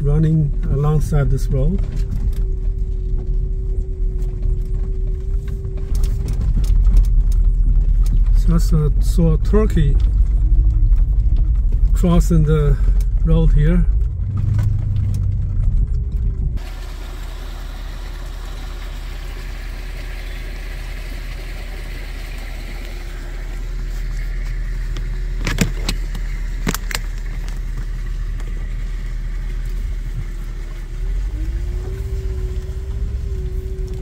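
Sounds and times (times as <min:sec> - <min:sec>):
engine and tyre rumble on gravel: 0:00.0 - 0:34.0.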